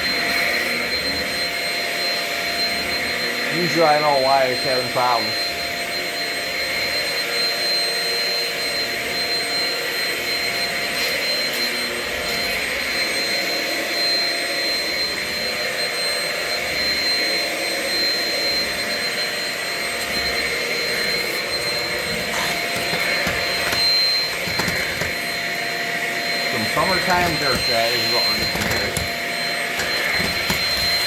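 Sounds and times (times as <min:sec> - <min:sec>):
stick vacuum running: 0:00.0 - 0:31.0.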